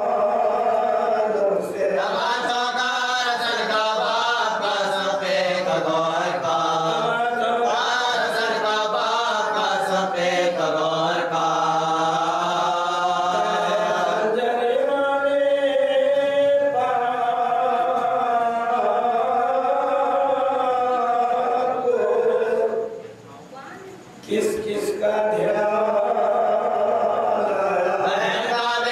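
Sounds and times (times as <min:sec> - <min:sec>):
man chanting: 0:00.0 - 0:23.0, 0:24.2 - 0:28.9.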